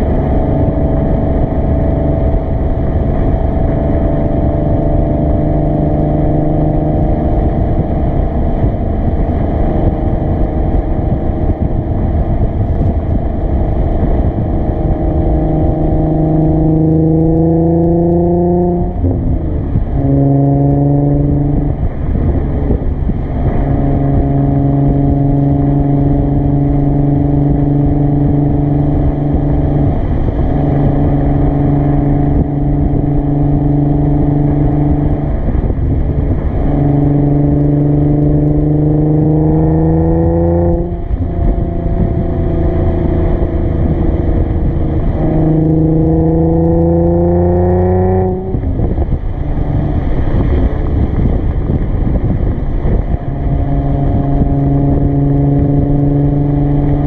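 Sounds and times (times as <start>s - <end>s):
car exhaust while driving: 0.0s - 57.0s.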